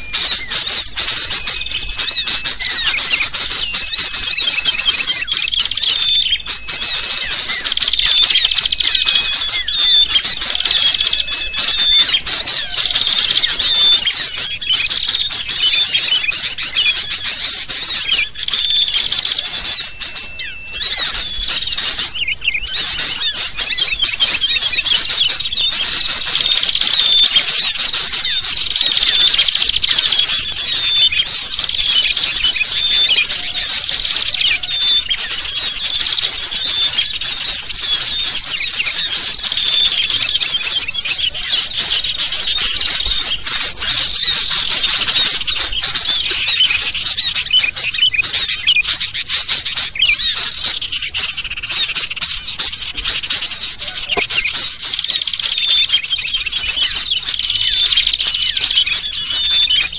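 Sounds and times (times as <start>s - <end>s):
bulbuls chattering: 0.0s - 59.9s
small birds chirping: 0.0s - 59.9s.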